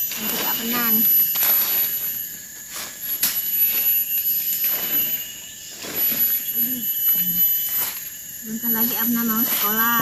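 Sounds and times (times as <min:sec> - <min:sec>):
dry leaves rustling and crackling: 0:00.0 - 0:10.0
high-pitched whine: 0:00.0 - 0:10.0.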